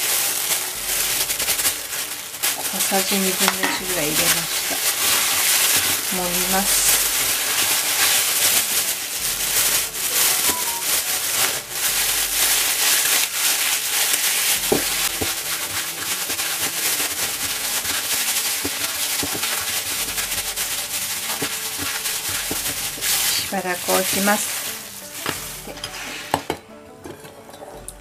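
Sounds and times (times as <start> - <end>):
plastic bag crinkling: 0.0 - 26.7.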